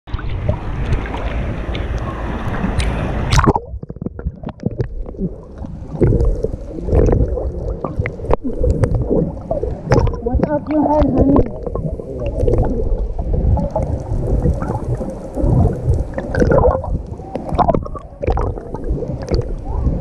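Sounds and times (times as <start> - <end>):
underwater gurgling and bubbles: 0.1 - 20.0.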